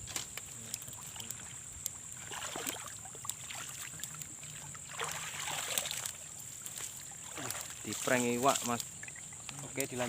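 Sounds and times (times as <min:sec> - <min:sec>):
water splashing and dribbling: 0:00.0 - 0:10.0.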